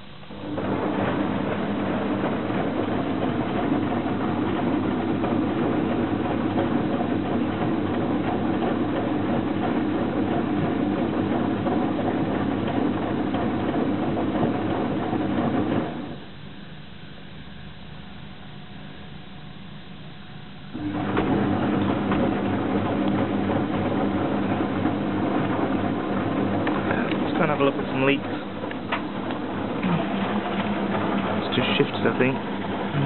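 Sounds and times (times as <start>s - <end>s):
washing machine drum motor: 0.0s - 16.6s, 20.6s - 33.0s.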